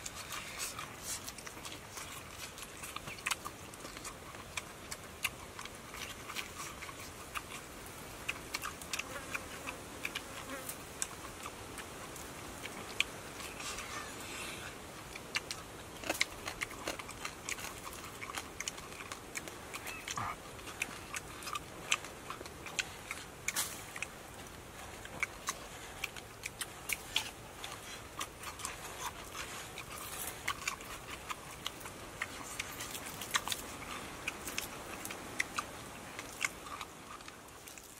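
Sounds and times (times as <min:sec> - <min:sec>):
chewing and picking at fish: 0:00.0 - 0:37.9
faint steady hiss: 0:00.0 - 0:37.9.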